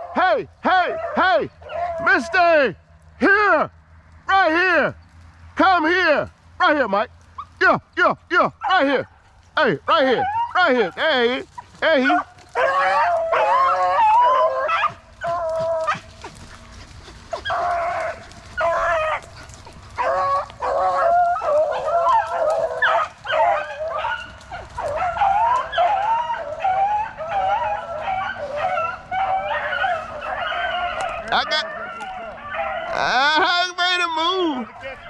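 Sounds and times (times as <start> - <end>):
dogs baying and yipping: 0.0 - 2.4, 7.2 - 7.6, 8.5 - 35.0.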